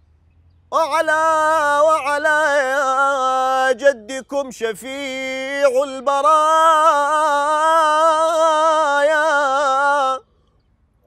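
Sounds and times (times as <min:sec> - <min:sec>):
man singing unaccompanied: 0:00.7 - 0:10.3.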